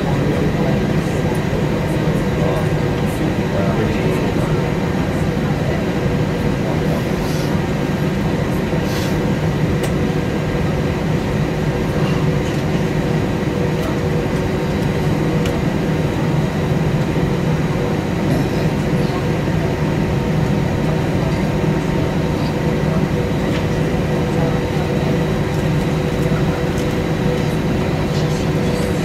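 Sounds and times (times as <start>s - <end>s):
airliner cabin engine drone: 0.0s - 29.0s
constant low hum: 0.0s - 29.0s.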